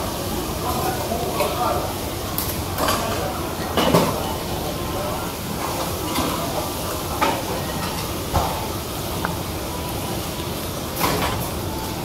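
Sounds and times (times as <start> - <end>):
food sizzling on a griddle: 0.0 - 9.8.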